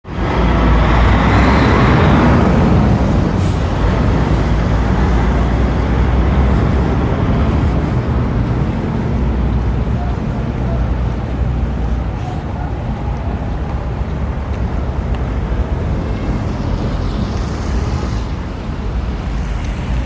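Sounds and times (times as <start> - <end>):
road and traffic noise: 0.0 - 20.0
vehicle engine rumbling: 0.0 - 20.0.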